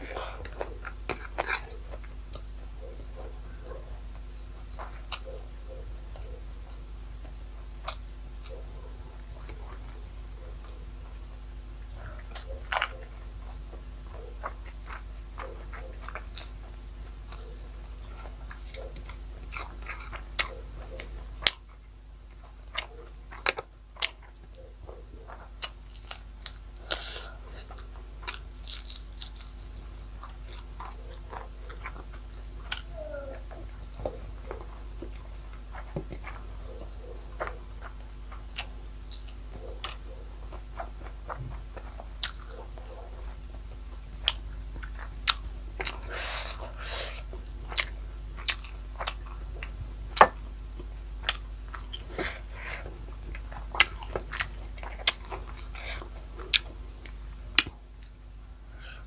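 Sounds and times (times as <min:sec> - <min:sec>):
chewing with mouth clicks: 0:00.0 - 0:58.2
faint steady hum: 0:00.0 - 0:59.0.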